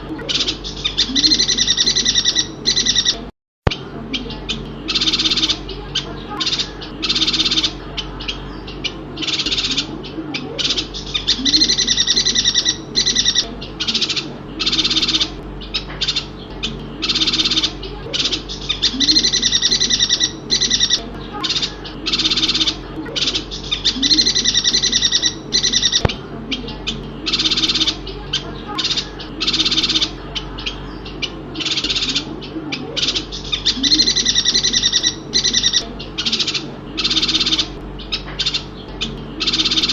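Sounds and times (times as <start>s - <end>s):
bird calling: 0.0s - 39.9s.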